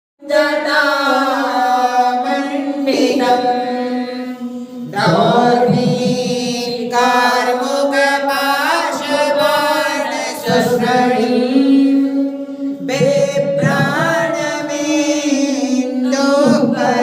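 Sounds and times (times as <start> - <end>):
verses chanted melodically: 0.2 - 17.0.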